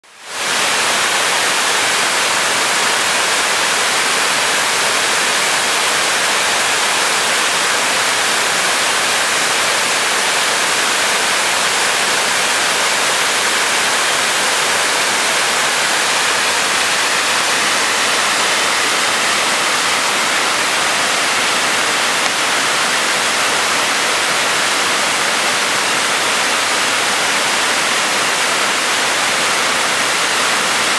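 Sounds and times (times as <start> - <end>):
waterfall rushing into pool: 0.0 - 30.9.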